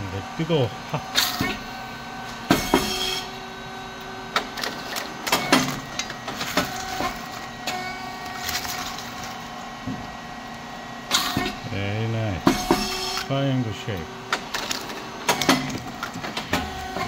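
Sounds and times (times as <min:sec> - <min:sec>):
machine motor hum: 0:00.0 - 0:17.0.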